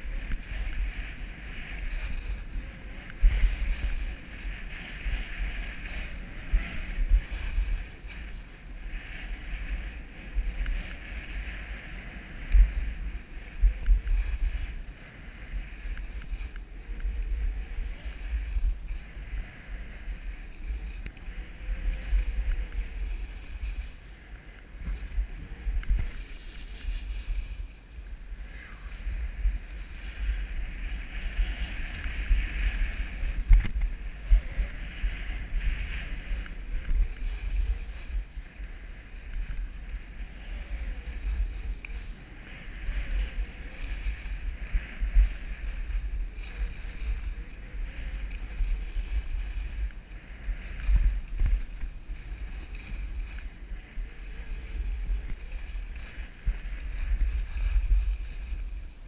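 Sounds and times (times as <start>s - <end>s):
skis scraping on packed snow: 0.0s - 59.0s
wind buffeting microphone: 0.0s - 59.0s.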